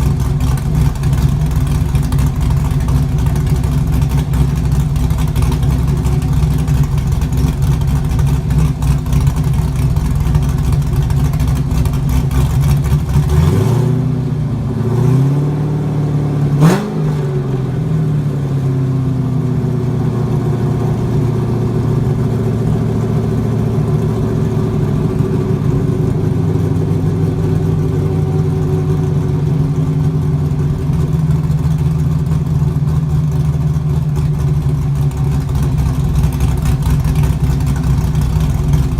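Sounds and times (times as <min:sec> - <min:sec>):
v eight engine idling and revving: 0:00.0 - 0:38.9.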